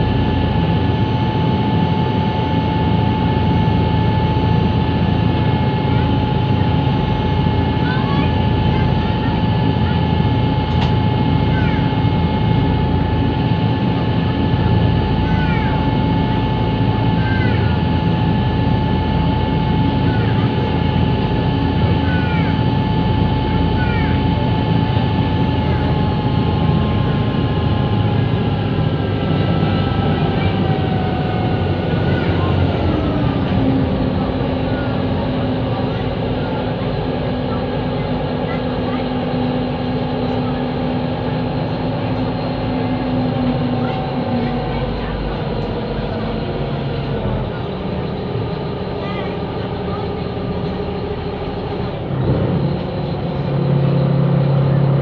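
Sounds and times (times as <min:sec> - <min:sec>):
faint whine: 0:00.0 - 0:55.0
ferry diesel engines droning: 0:00.0 - 0:55.0.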